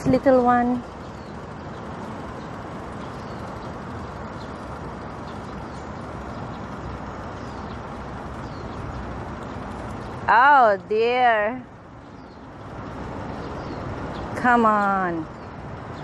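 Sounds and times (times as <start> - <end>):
city background noise: 0.0 - 16.0
small birds chirping: 0.0 - 16.0.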